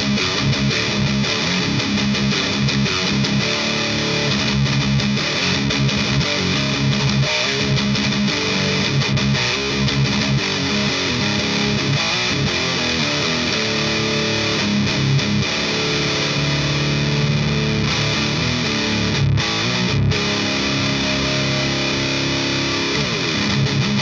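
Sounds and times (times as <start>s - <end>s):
distorted electric guitar riffing: 0.0s - 24.0s.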